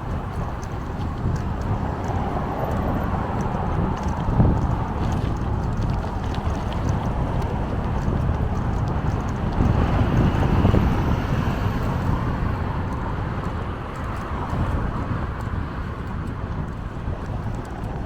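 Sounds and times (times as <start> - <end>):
heavy low rumble: 0.0 - 18.0
wind rushing over microphone: 0.0 - 18.0.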